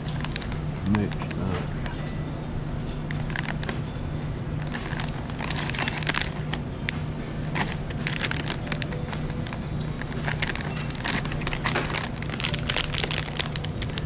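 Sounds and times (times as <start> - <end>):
plastic snack pouches crinkling: 0.0 - 2.0, 3.1 - 3.8, 4.6 - 14.0
steady low hum: 0.0 - 14.0.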